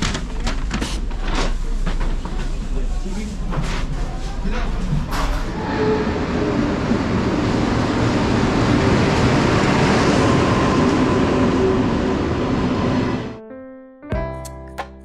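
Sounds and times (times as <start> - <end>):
train rumbling: 0.0 - 13.4.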